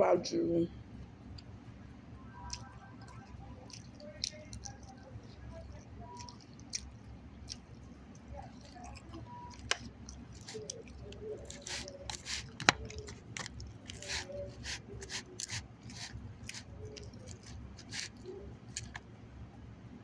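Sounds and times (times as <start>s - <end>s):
chewing crunchy food: 0.8s - 19.5s.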